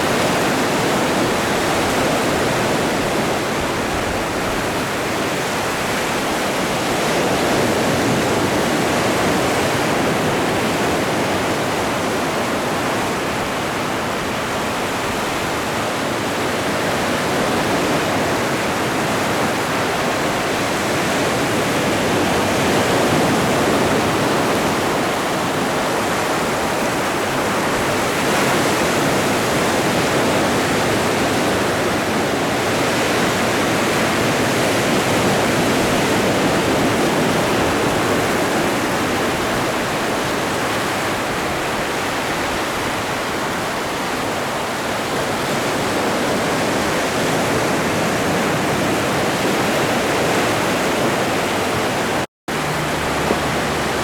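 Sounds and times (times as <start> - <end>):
ocean surf rushing: 0.0 - 54.0.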